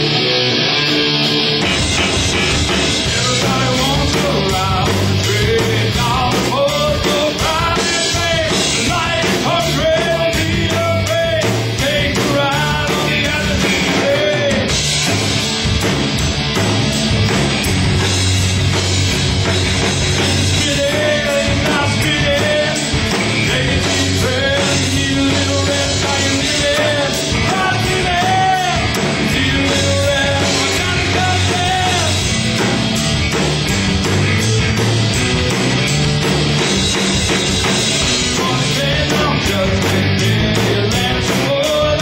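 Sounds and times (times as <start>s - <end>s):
amplified electric guitars: 0.0s - 42.0s
drum kit: 0.0s - 42.0s.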